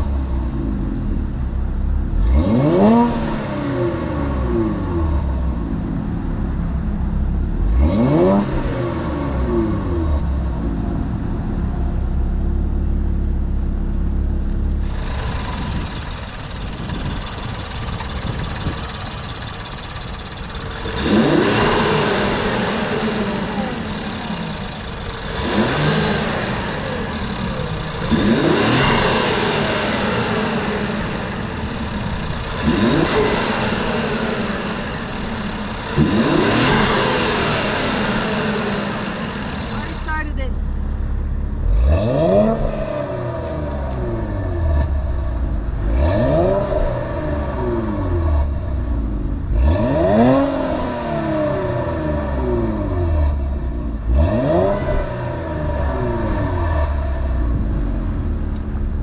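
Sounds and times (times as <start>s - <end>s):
car engine idling: 0.0s - 59.0s
engine throttle revs: 0.0s - 59.0s.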